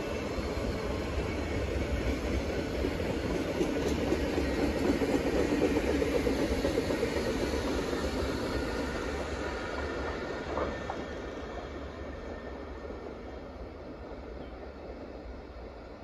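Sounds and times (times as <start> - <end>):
diesel locomotive: 0.0 - 16.0
train wheels rumbling on rails: 0.0 - 16.0.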